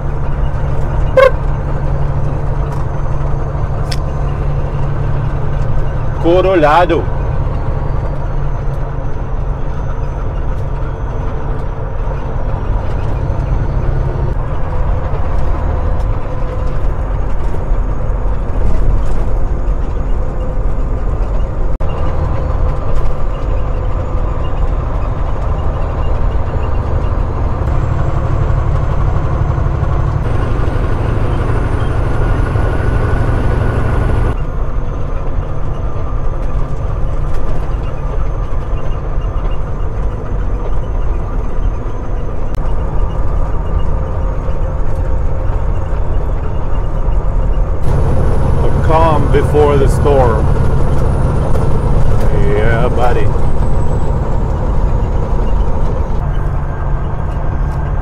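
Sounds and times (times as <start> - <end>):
diesel truck engine cruising: 0.0 - 58.0.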